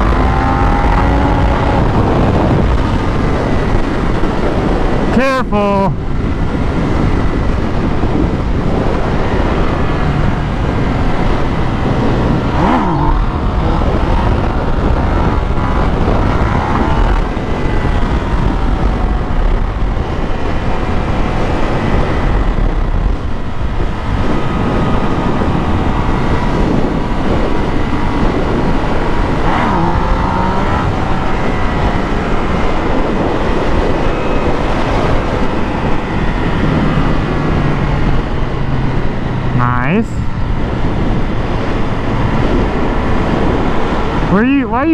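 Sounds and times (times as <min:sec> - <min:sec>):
motorcycle engine revving: 0:00.0 - 0:05.1, 0:06.0 - 0:44.9.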